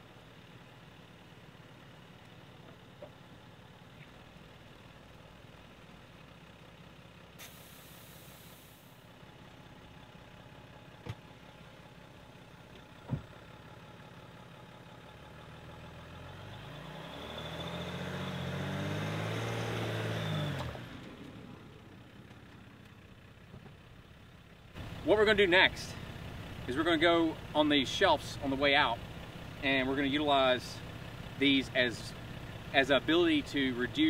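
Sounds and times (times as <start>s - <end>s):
engine idling and revving: 0.0s - 34.0s.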